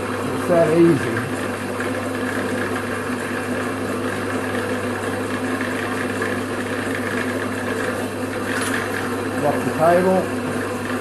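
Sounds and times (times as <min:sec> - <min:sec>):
drill motor humming: 0:00.0 - 0:11.0.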